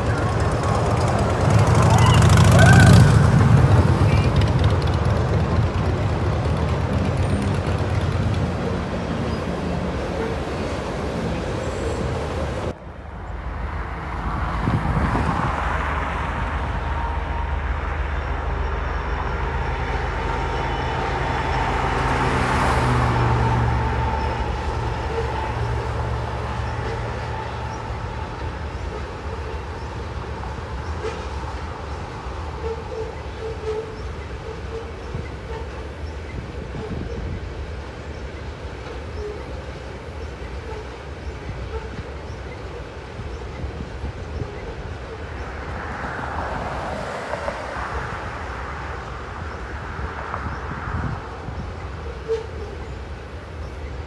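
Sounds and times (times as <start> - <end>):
tank cars rolling over bridge: 0.0 - 45.8
diesel locomotive engine hum: 0.0 - 54.0
train wheels rumbling on rails: 0.0 - 54.0.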